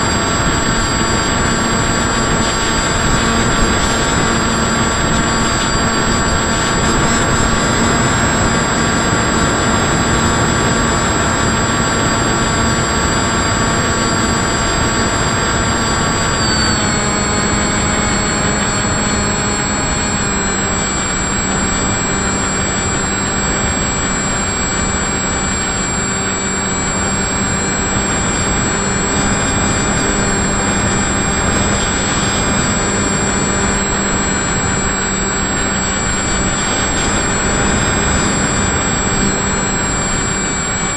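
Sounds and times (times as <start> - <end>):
electric motors whining: 0.0 - 40.9
rushing air: 0.0 - 40.9.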